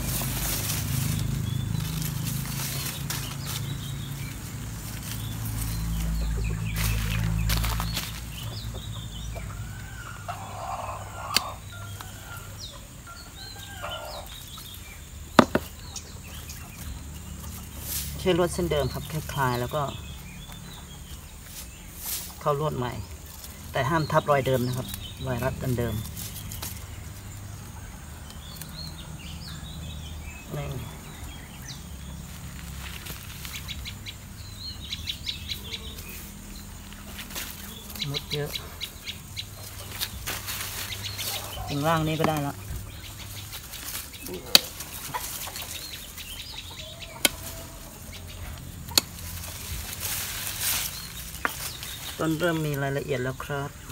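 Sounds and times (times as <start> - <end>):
chickens clucking: 0.0 - 53.9
small birds chirping: 0.0 - 53.9.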